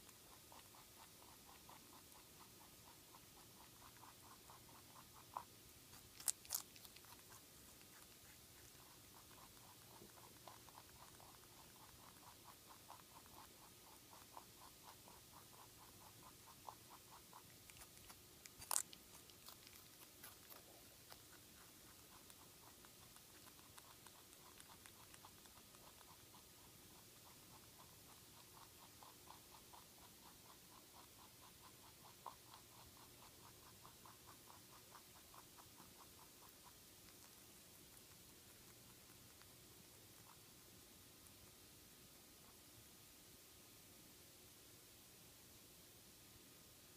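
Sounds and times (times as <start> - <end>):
rabbit crunching carrot: 0.0 - 43.8.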